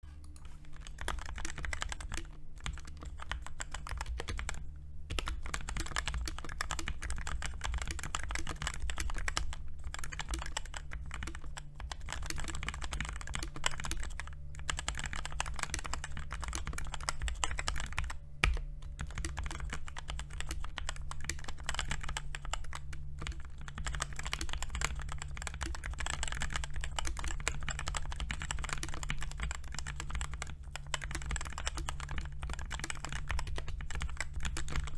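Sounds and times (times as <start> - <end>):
mechanical keyboard typing: 0.2 - 34.9.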